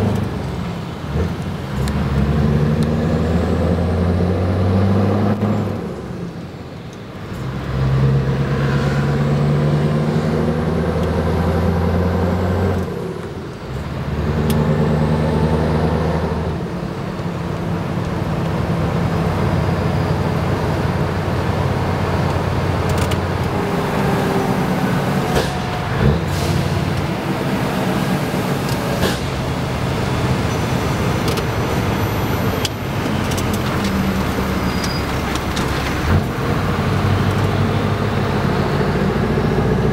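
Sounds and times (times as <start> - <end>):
truck diesel engine pulling away: 0.0 - 39.9.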